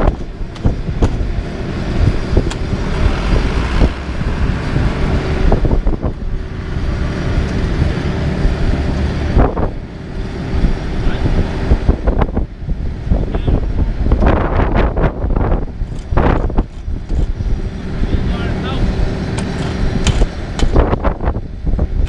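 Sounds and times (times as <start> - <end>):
diesel engines running: 0.0 - 22.0
wind buffeting microphone: 0.0 - 22.0.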